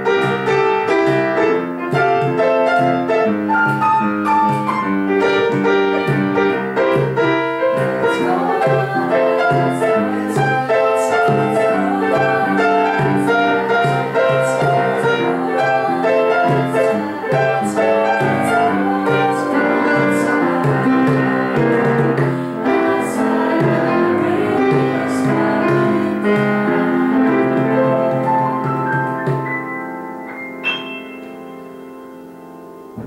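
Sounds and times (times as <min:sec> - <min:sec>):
piano jazz: 0:00.0 - 0:33.0.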